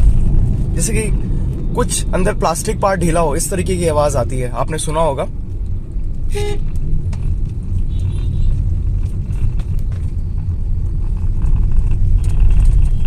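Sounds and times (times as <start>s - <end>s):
steering clicks and rattles: 0.0s - 13.0s
tyres rumbling on rough road: 0.0s - 13.0s.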